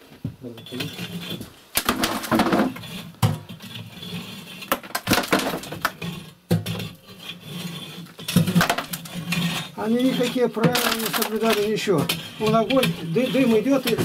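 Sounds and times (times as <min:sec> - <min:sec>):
poker scraping brick flue: 0:00.4 - 0:14.0.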